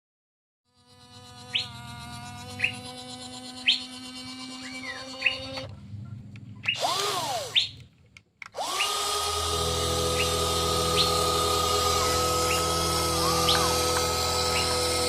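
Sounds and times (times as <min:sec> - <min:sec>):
toy electric motor whine: 0:00.7 - 0:05.7, 0:06.6 - 0:07.8, 0:08.6 - 0:15.0.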